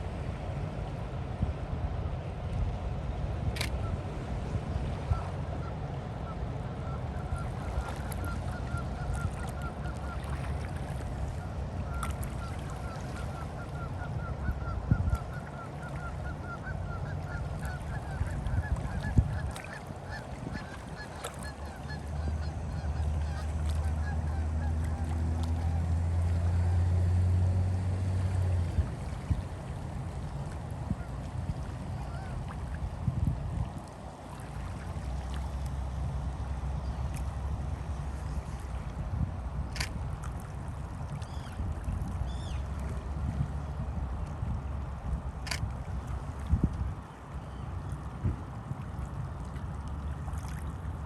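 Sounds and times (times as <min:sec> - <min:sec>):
low rumble of wind: 0:00.0 - 0:51.0.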